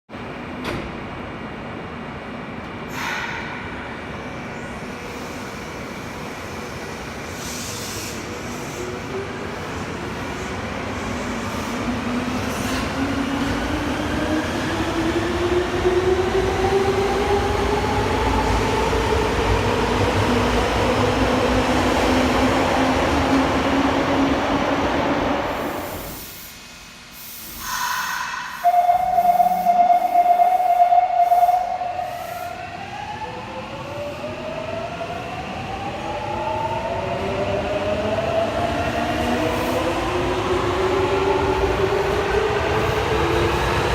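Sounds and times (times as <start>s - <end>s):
rail noise: 0.2s - 43.9s
subway motors whining: 0.2s - 43.9s.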